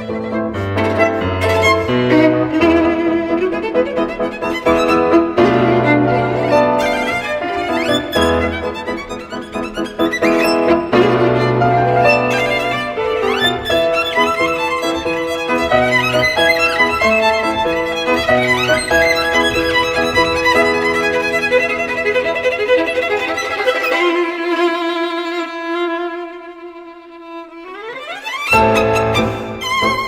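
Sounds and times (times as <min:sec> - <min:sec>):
low musical accompaniment: 0:00.0 - 0:24.2
bowed violin: 0:00.0 - 0:30.0.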